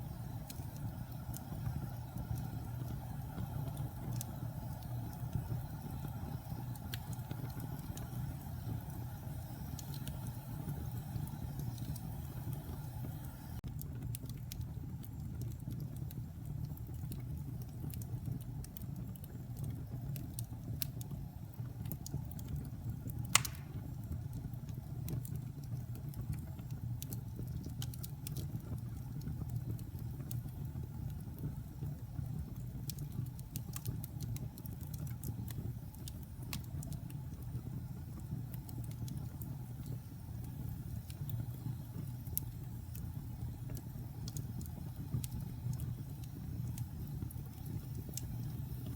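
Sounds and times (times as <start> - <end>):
fireplace fire crackling: 0.0 - 48.9.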